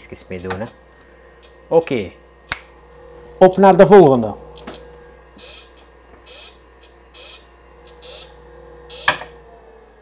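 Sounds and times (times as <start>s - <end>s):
computer hum: 0.0s - 9.1s
high electronic blips: 0.0s - 9.2s.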